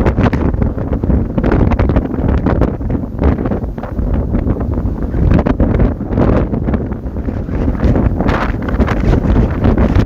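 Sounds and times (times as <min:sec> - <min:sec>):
deep steady rumble: 0:00.0 - 0:10.0
strong wind gusts: 0:00.0 - 0:10.0.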